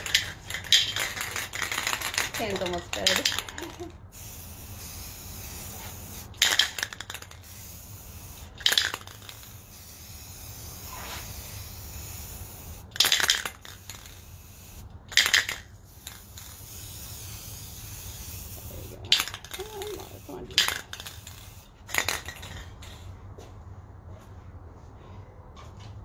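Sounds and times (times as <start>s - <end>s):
aerosol spray can bursts: 0.0s - 22.4s.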